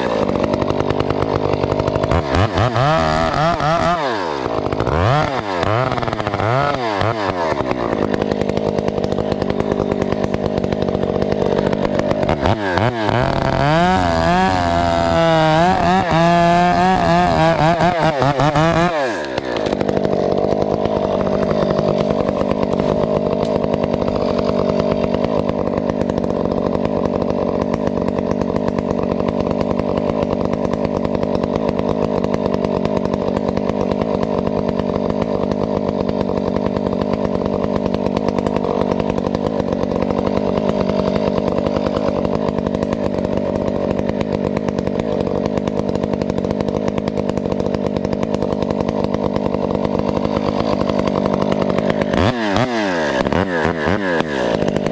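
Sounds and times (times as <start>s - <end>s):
chainsaw running at high revs: 0.0s - 54.9s.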